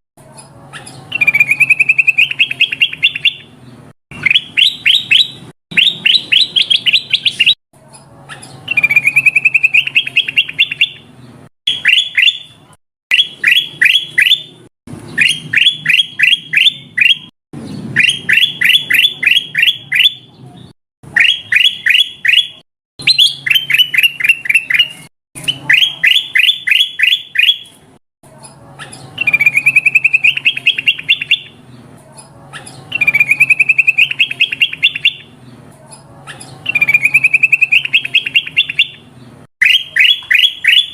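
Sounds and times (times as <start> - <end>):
bird chirping: 0.3 - 27.8, 28.5 - 40.9.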